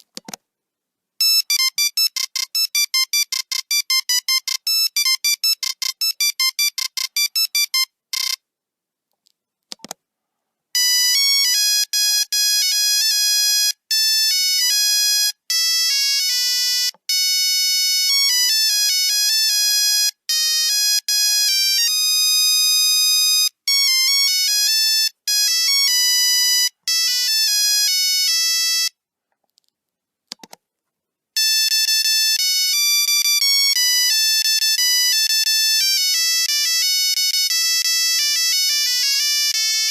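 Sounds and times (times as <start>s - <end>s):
monophonic ringtone beeping melodies: 1.2s - 8.4s, 10.8s - 28.9s, 31.4s - 39.9s.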